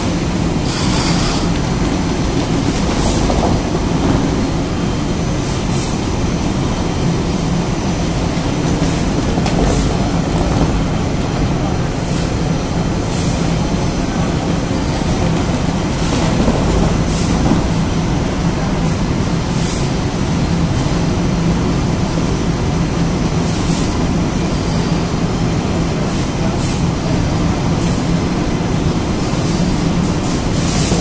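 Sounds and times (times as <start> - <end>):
laundry machine low hum: 0.0 - 31.0.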